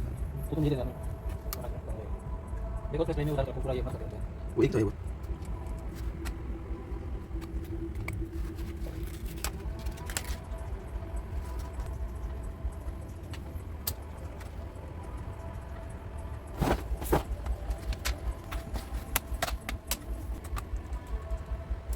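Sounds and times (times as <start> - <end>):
steady low rumble: 0.0 - 21.9.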